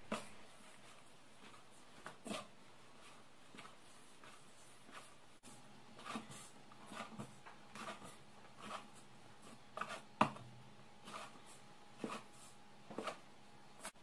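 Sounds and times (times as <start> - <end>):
dough kneaded by hand: 0.0 - 14.0.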